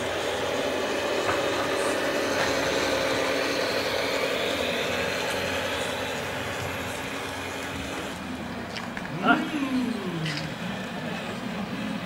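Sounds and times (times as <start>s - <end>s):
model truck drive train whine: 0.0s - 12.0s.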